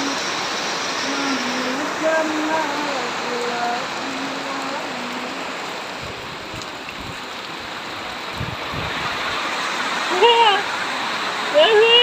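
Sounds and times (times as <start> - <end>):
heavy rain hiss: 0.0 - 12.0.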